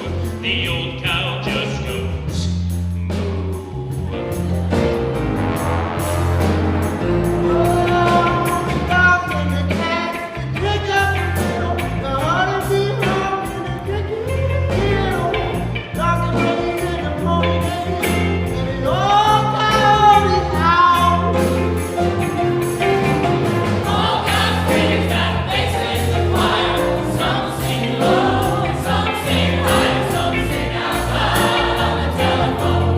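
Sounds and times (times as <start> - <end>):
song with singing voices: 0.0 - 32.9.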